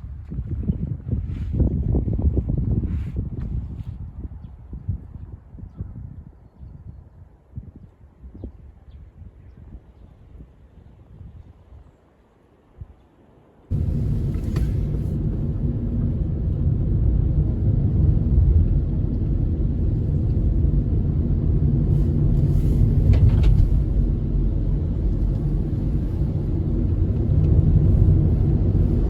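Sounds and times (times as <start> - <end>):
wind buffeting microphone: 0.0 - 11.9, 13.7 - 29.0.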